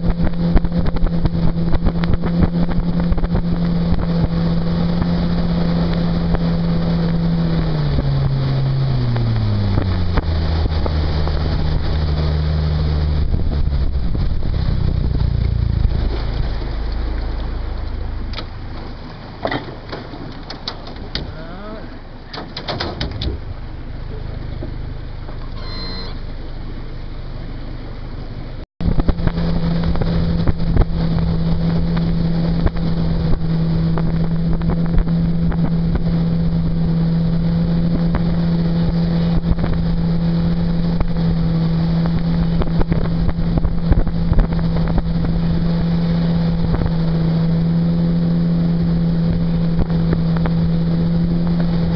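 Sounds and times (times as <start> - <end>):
wind buffeting microphone: 0.0 - 21.3, 28.8 - 51.9
outboard motor running: 0.0 - 51.9.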